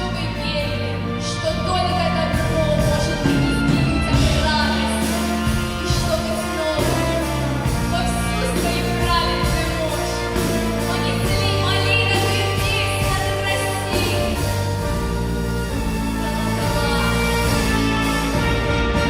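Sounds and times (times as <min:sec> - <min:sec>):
orchestral accompaniment: 0:00.0 - 0:19.0.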